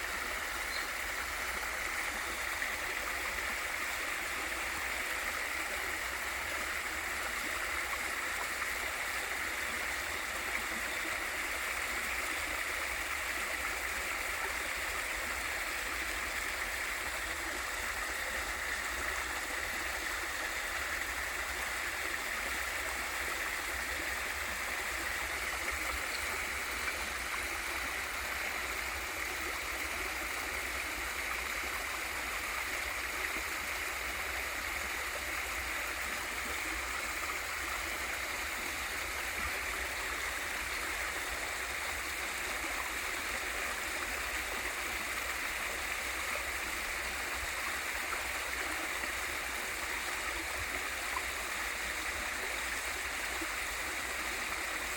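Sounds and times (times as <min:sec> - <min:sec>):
waterfall and stream rushing: 0:00.0 - 0:54.9.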